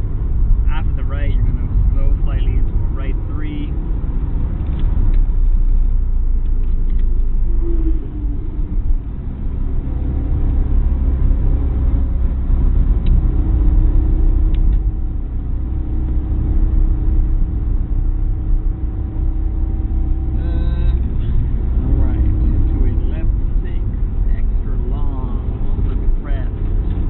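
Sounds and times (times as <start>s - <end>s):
car interior rumble: 0.0s - 27.0s.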